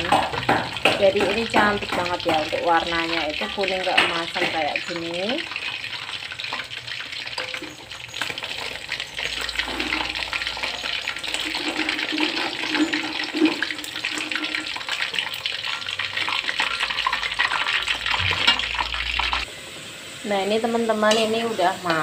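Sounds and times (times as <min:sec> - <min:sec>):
spatula scraping and clinking wok: 0:00.0 - 0:19.5, 0:20.8 - 0:22.0
oil sizzling and crackling: 0:00.0 - 0:22.0.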